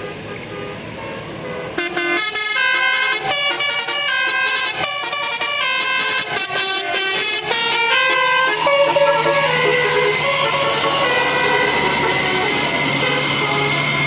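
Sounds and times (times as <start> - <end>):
bus air horns playing tune: 0.0 - 14.0.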